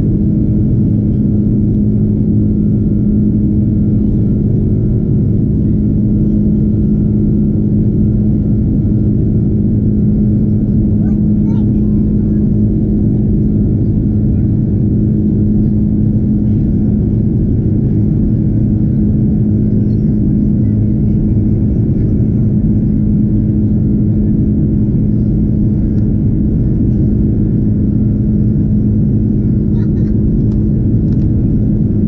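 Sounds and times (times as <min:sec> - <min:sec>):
airplane cabin engine drone: 0:00.0 - 0:32.0
steady hum tone: 0:00.0 - 0:32.0.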